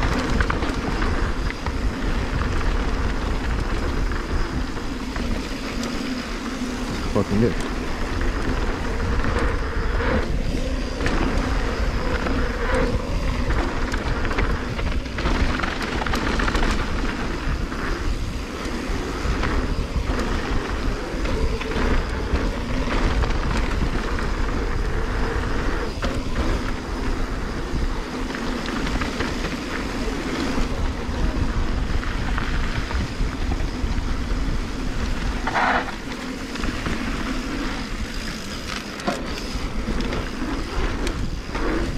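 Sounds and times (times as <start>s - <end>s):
bike tyres rolling on gravel: 0.0s - 41.9s
wind buffeting microphone: 0.0s - 41.9s.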